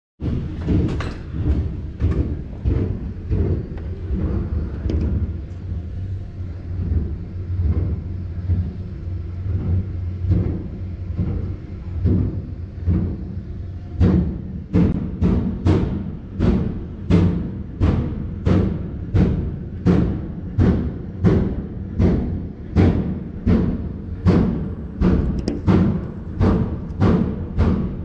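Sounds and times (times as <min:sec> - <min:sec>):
drilling rig rumbling: 0:00.2 - 0:18.9, 0:22.4 - 0:28.0
knocks and clanks: 0:00.2 - 0:28.0.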